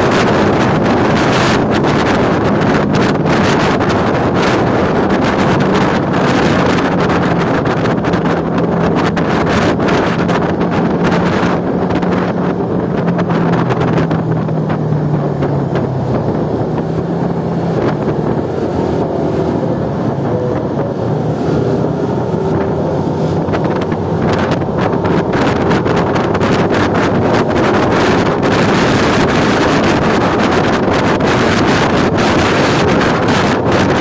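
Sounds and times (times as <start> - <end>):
motorcycle engine hum: 0.0 - 34.0
wind buffeting microphone: 0.0 - 34.0.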